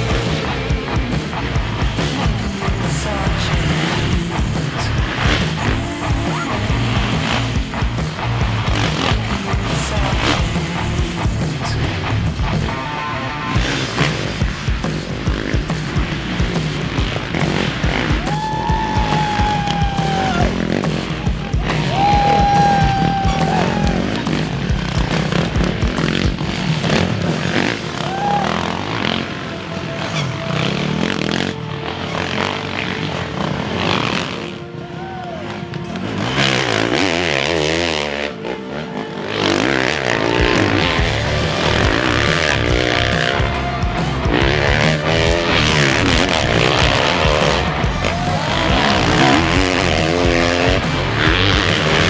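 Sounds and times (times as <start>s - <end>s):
dirt bikes revving: 0.0s - 52.0s
music: 0.0s - 52.0s.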